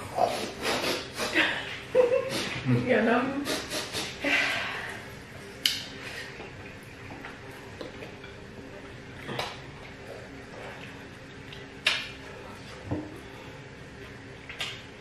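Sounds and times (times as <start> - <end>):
quiet eating sounds: 0.0 - 2.8, 3.4 - 15.0
faint steady hum: 0.0 - 15.0.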